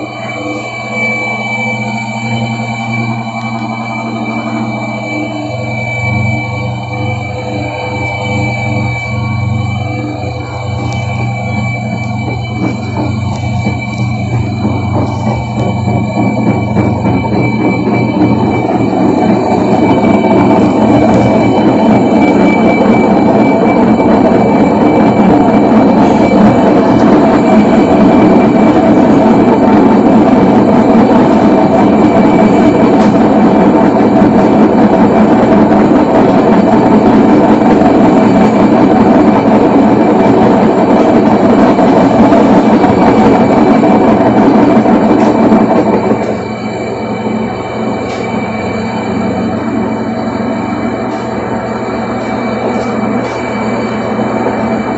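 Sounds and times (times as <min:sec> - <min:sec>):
high whine: 0:00.0 - 0:54.9
washing machine rumbling: 0:00.0 - 0:54.9.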